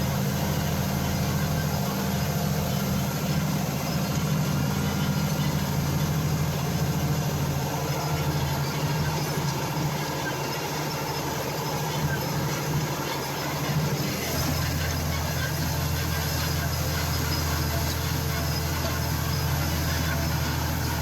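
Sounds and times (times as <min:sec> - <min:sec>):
farm machinery engine droning: 0:00.0 - 0:21.0.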